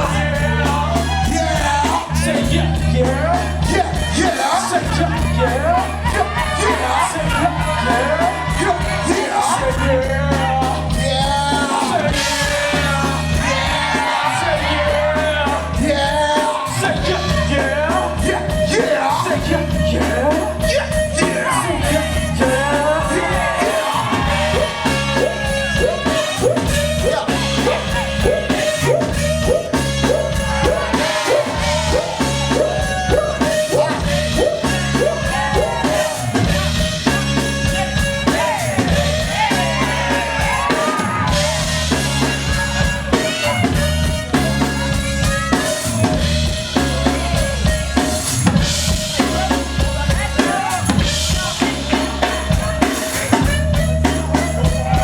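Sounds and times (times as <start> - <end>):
dance music with drum beat: 0.0 - 55.0.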